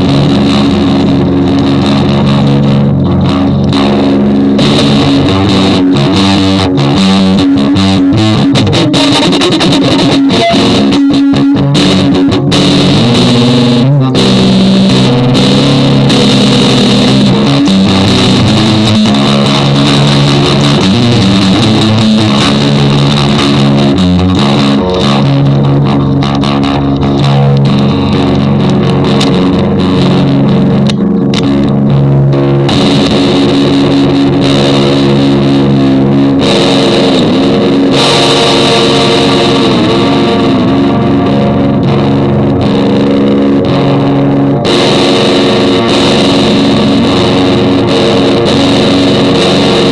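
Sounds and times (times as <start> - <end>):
distorted electric guitar music: 0.0 - 49.9.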